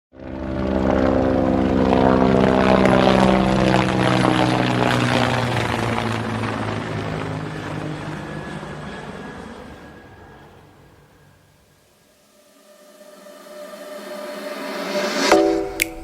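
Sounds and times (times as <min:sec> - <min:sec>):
aircraft engine droning: 0:00.2 - 0:16.0.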